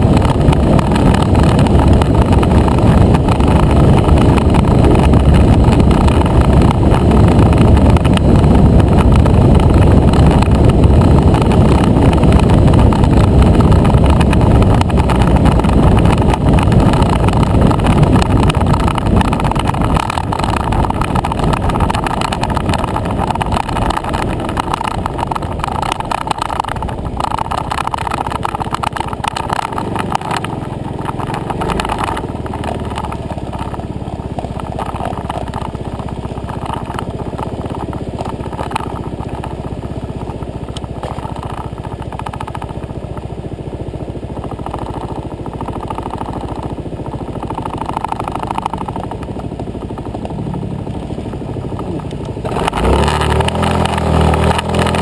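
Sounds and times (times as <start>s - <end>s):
scooter engine: 0.0s - 55.0s
wind rush on microphone: 0.0s - 55.0s.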